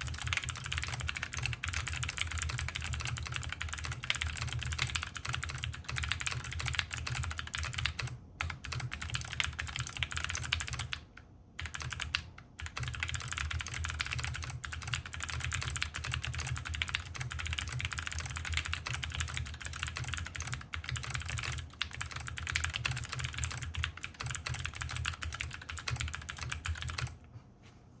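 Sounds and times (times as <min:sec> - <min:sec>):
fast mechanical keyboard typing: 0:00.0 - 0:27.2.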